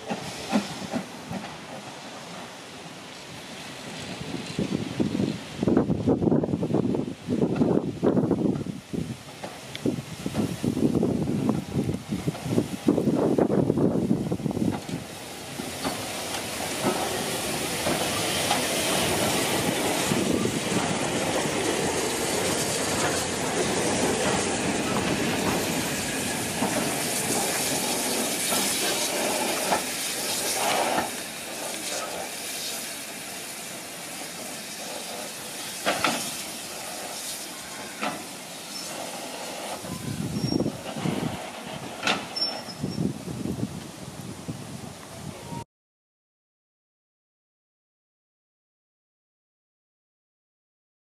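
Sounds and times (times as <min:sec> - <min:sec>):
steam hissing: 0:00.0 - 0:44.8
steam locomotive running: 0:00.0 - 0:45.6.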